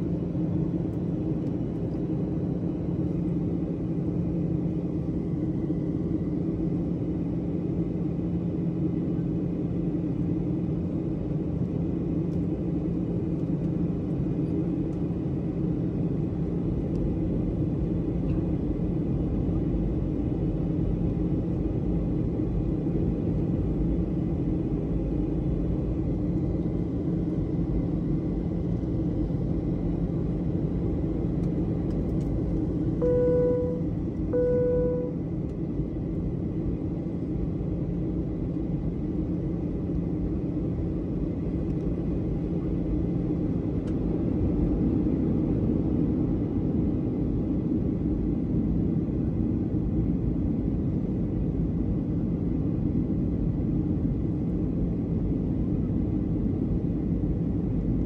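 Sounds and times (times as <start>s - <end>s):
constant low hum: 0.0s - 58.0s.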